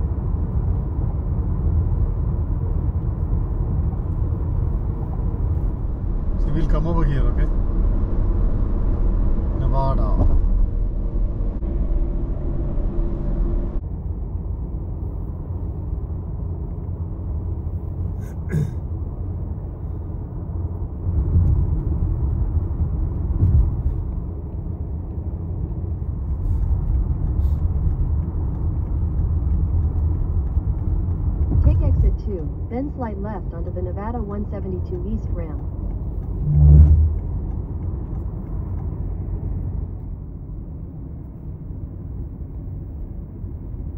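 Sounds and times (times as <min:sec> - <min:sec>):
car road and engine noise: 0:00.0 - 0:43.9.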